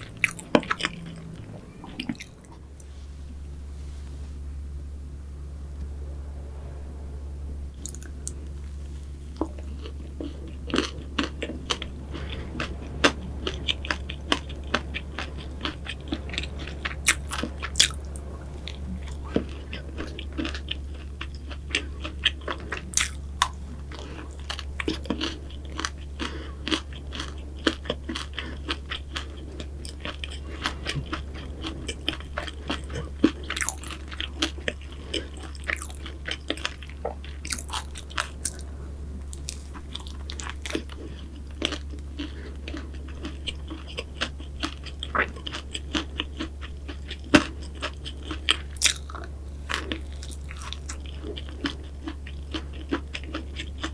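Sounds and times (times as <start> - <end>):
soft chewing: 0.0 - 3.5, 7.8 - 53.9
steady low hum: 0.0 - 53.9
crunching pastry bites: 9.4 - 53.9.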